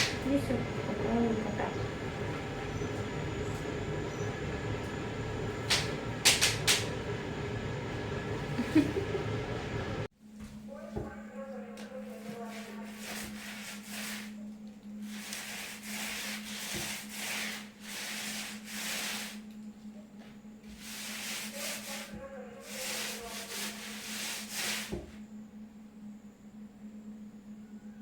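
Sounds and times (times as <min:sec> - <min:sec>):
paint roller rubbing on wall: 0:00.0 - 0:10.1, 0:11.7 - 0:19.6, 0:20.3 - 0:25.2
low electrical hum: 0:00.0 - 0:28.0.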